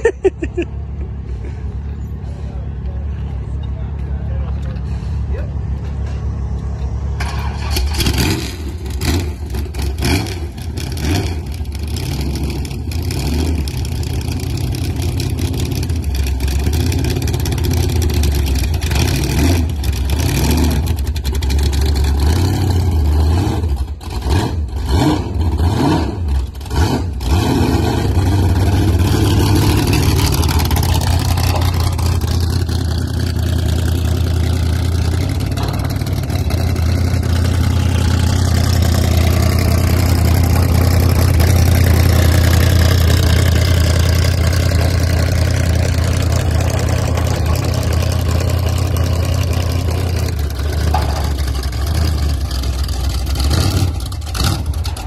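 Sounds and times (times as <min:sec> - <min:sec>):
car engine revving: 0:07.2 - 0:55.0.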